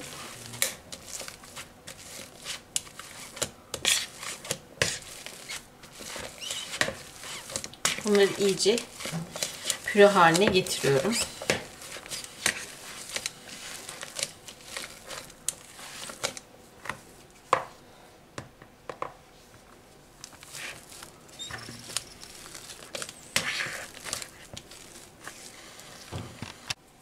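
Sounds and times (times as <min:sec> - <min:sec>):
masher squishing potatoes: 0:00.0 - 0:17.3, 0:20.0 - 0:26.8.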